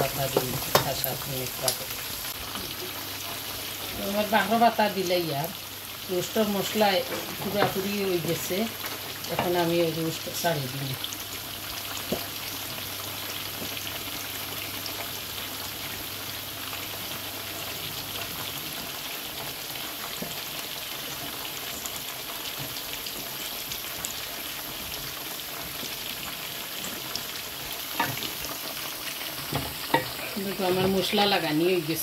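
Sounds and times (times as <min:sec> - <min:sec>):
spices sizzling in oil: 0:00.0 - 0:32.0.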